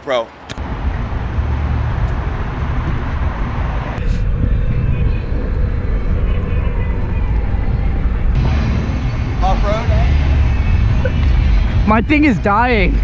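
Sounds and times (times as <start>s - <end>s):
scooter road noise: 0.6s - 13.0s
wind rumble on microphone: 0.6s - 13.0s.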